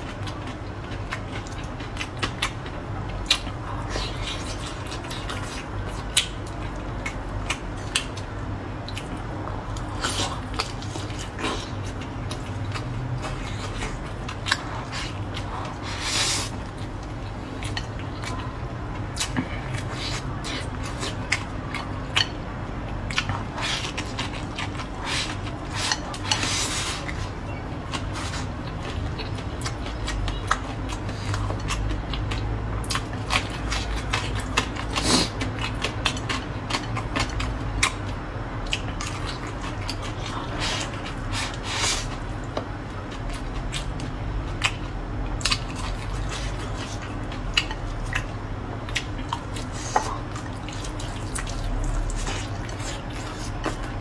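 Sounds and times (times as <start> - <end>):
chewing and mouth smacking: 0.0 - 54.0.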